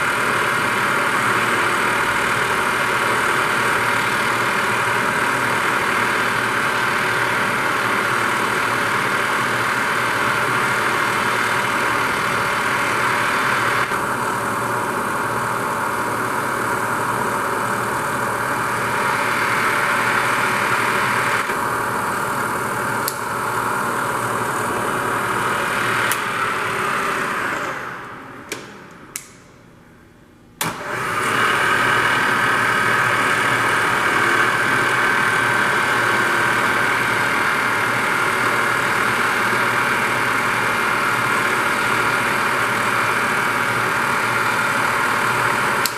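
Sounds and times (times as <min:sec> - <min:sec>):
milling machine motor humming: 0:00.0 - 0:29.3, 0:30.6 - 0:45.9.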